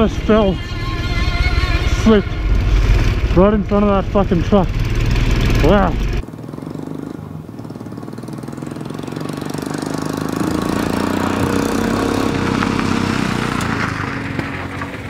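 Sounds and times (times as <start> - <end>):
motorcycle engine passing by: 0.0 - 15.0.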